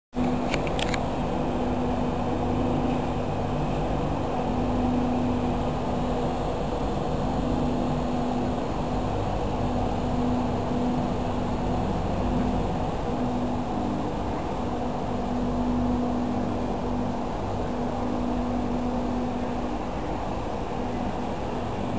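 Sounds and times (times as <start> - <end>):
low hum: 0.2 - 21.9.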